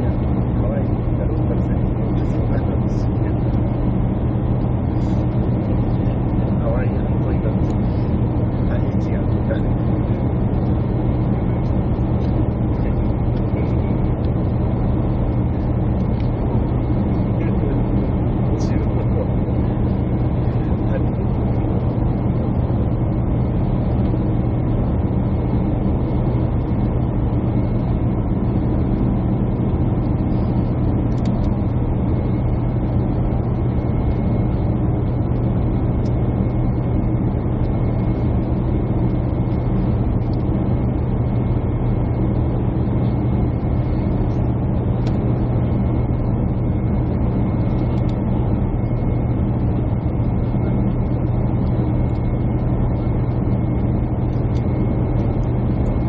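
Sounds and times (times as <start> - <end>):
airliner cabin drone: 0.0 - 56.0
faint steady whine: 0.0 - 56.0.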